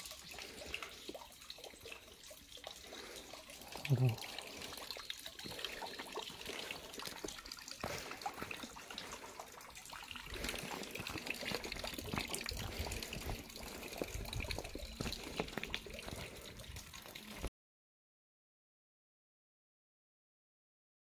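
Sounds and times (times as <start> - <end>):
water trickling: 0.0 - 17.5.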